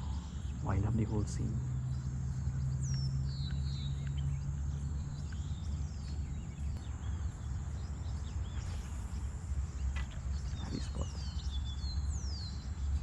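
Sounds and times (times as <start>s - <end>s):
birds chirping: 0.0s - 13.0s
insect drone: 0.0s - 13.0s
low hum: 0.0s - 13.0s.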